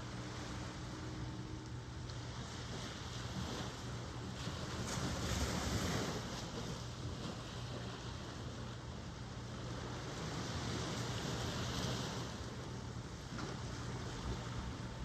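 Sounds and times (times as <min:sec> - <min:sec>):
ocean surf washing in: 0:00.0 - 0:15.0.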